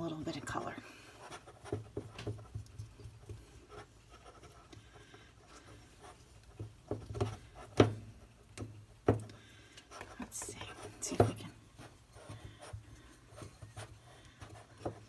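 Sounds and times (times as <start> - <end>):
fingers kneading dough in glass bowl: 0.0 - 15.0.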